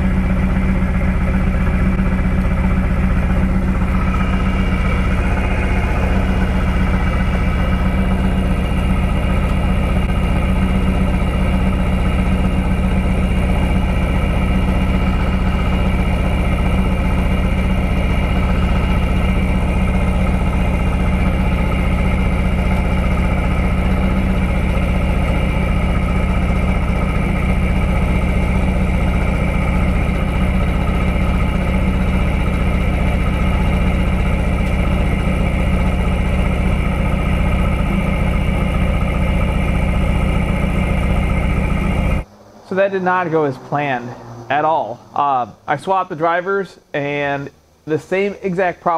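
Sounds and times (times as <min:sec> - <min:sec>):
car engine idling with a miss: 0:00.0 - 0:46.0.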